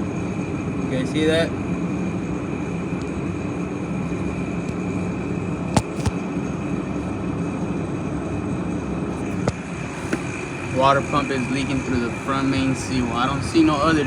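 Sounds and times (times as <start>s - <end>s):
car engine idling: 0.0s - 14.0s
high whine: 0.0s - 14.0s.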